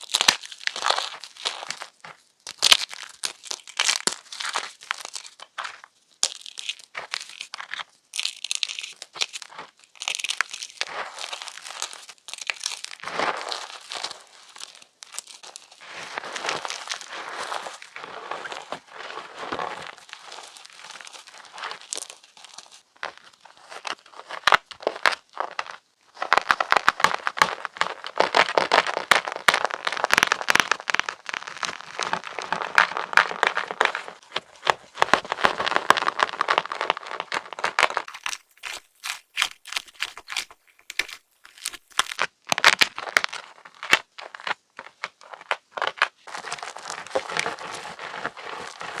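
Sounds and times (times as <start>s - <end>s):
chalk blocks crunching: 0.0s - 49.0s.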